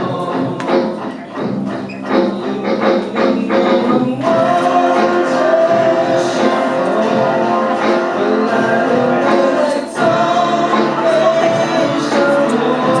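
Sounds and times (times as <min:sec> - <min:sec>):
instrumental backing: 0:00.0 - 0:13.0
person singing: 0:00.0 - 0:13.0.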